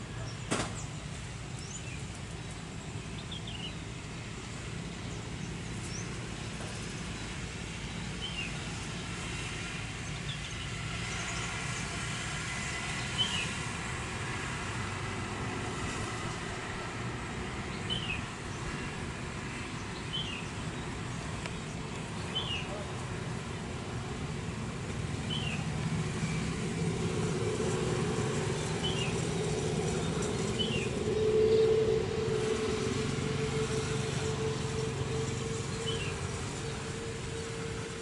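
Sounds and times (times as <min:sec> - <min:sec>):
distant jet engines: 0:00.0 - 0:38.0.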